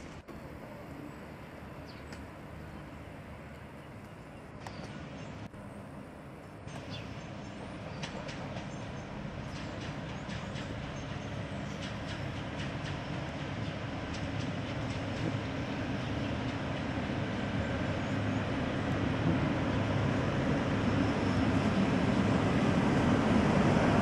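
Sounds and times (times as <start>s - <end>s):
train engine and rail rumble: 0.0s - 24.0s.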